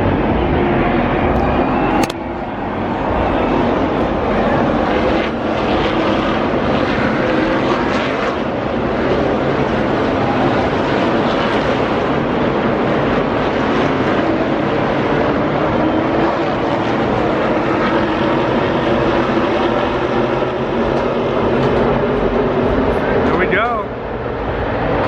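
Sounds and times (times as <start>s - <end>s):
race cars racing past: 0.0s - 25.0s.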